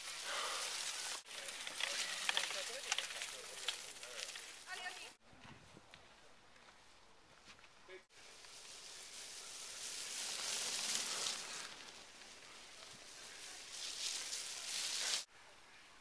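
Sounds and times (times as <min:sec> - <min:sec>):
bike tyres rustling through leaves: 0:00.0 - 0:05.2, 0:07.3 - 0:16.0.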